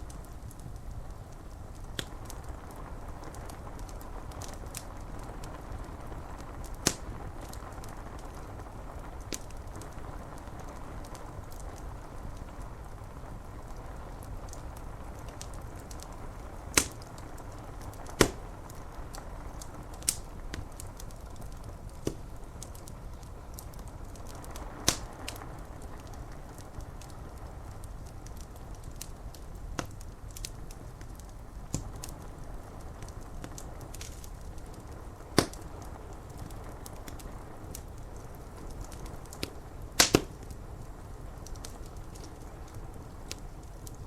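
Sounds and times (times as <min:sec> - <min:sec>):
rain on window glass: 0:00.0 - 0:44.0
wood fire crackling: 0:00.0 - 0:44.0.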